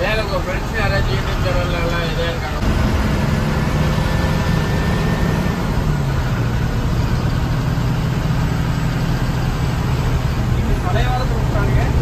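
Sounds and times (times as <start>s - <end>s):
bus engine droning: 0.0s - 12.0s
road noise: 0.0s - 12.0s.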